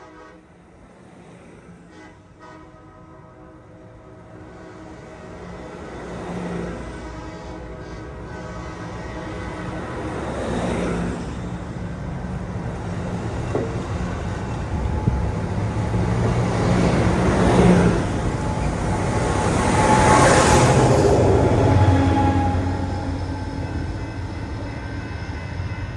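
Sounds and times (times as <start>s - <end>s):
train wheel and track noise: 0.0s - 25.9s
diesel locomotive engine rumble: 1.9s - 25.9s.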